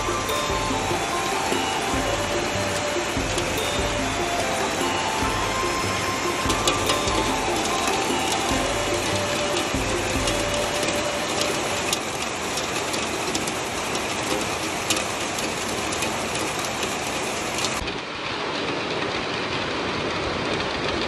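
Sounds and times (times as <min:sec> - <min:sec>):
heavy rain on foliage: 0:00.0 - 0:21.0.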